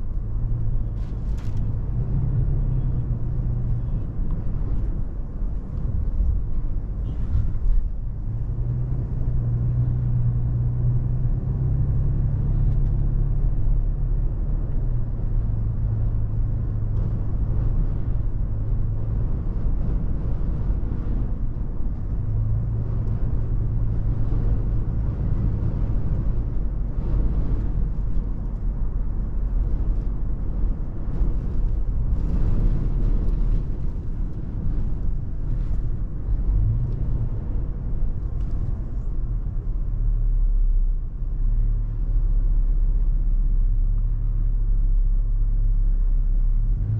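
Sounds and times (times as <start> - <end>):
car engine running: 0.0 - 40.6
heavy wind: 0.0 - 46.9
road rumble: 0.0 - 46.9.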